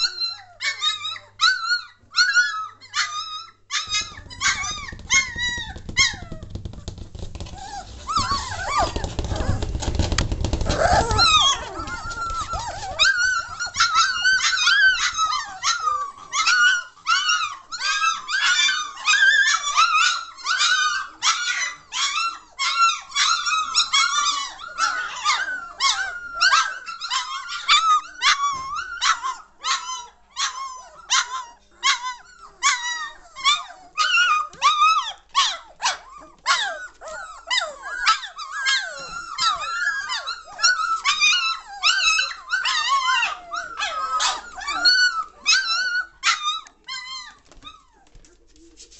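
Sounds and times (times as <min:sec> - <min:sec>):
puppies yelping and whining: 0:00.0 - 0:48.9.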